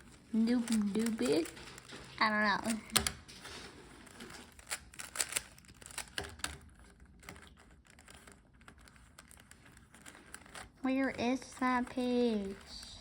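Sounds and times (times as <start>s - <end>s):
puzzle cube plastic clicks: 0.0s - 13.0s.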